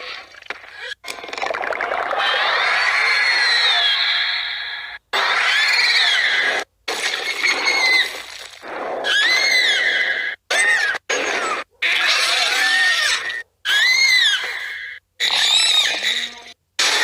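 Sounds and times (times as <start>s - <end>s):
high warbling creature cries: 1.8s - 8.3s, 8.9s - 17.0s.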